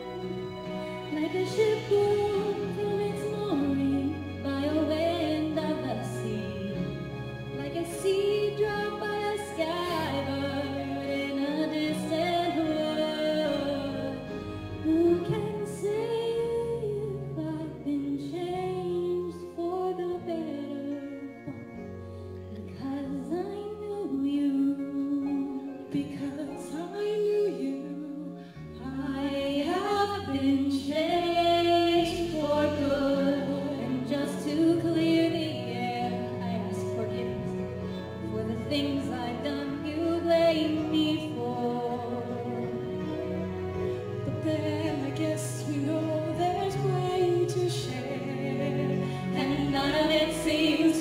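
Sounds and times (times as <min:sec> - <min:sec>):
instrumental accompaniment: 0:00.0 - 0:51.0
two women singing a duet: 0:00.9 - 0:07.0, 0:07.6 - 0:21.5, 0:22.5 - 0:43.0, 0:44.2 - 0:51.0.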